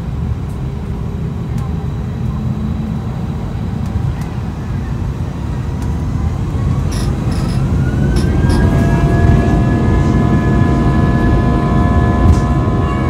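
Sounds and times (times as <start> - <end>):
jet engine whine: 0.0 - 13.0
low engine rumble: 0.0 - 13.0.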